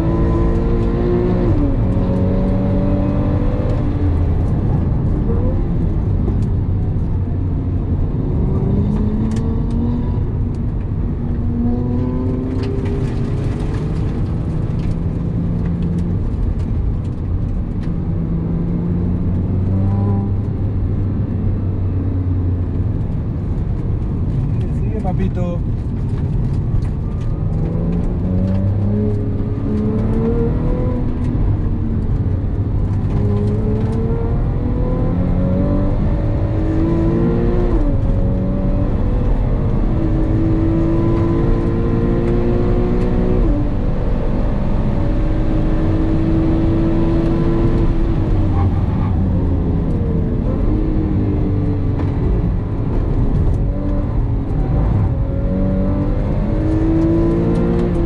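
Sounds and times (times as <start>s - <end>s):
car engine revving: 0.0s - 58.0s
road and tyre rumble: 0.0s - 58.0s.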